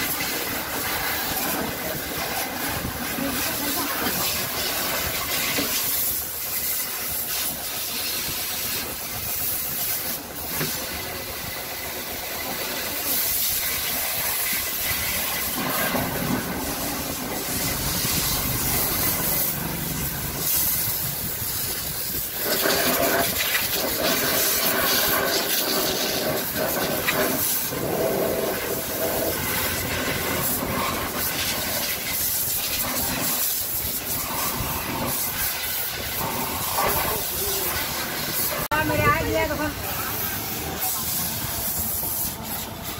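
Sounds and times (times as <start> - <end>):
hose water spraying on wheel: 0.0 - 42.9.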